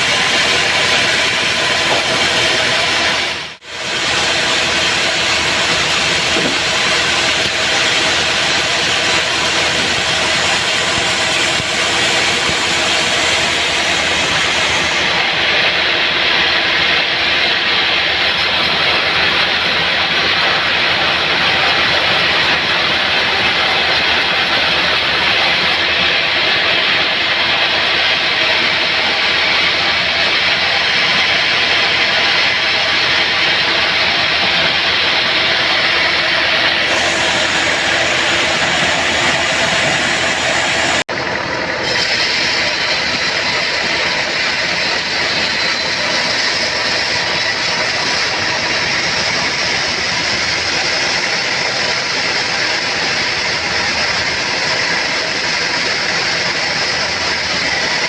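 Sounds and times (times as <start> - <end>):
bandsaw sawmill sawing logs: 0.0 - 58.0
steady machine hum: 0.0 - 58.0.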